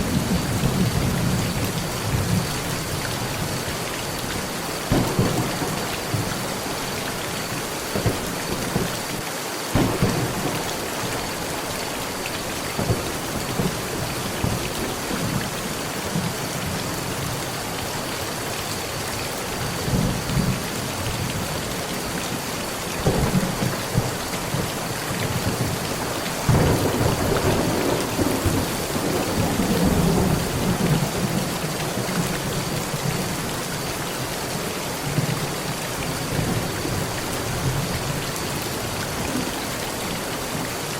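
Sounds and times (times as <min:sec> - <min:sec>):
thunder claps and rumble: 0:00.0 - 0:17.4, 0:19.6 - 0:39.6
heavy rain on a metal roof: 0:00.0 - 0:40.9.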